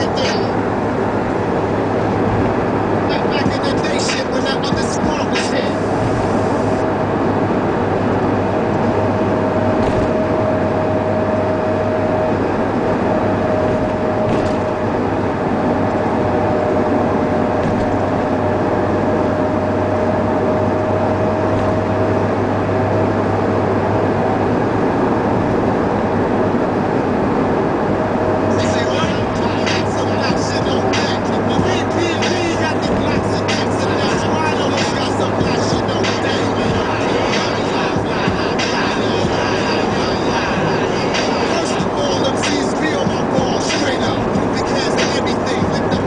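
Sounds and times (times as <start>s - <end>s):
car road and engine noise: 0.0s - 46.0s
thin steady whine: 0.0s - 46.0s.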